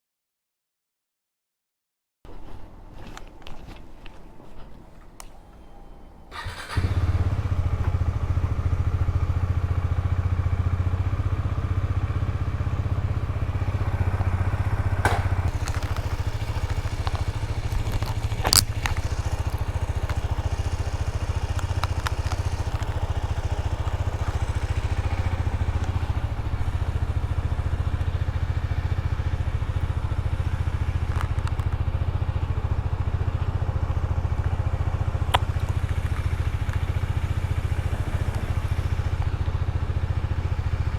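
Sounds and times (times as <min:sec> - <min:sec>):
motorcycle engine idling: 0:06.3 - 0:40.9.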